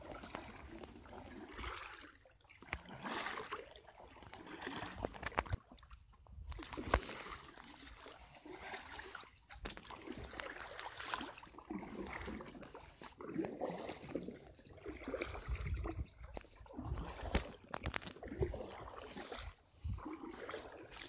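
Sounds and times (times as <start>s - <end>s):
kayak paddles splashing: 0.0s - 21.0s
water trickling off paddles: 0.0s - 21.0s.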